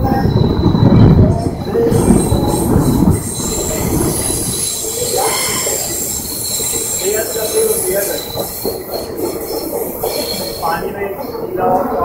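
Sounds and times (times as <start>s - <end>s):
high wheel squeal: 0.0s - 11.8s
train wheels rumbling on rail: 0.0s - 12.0s.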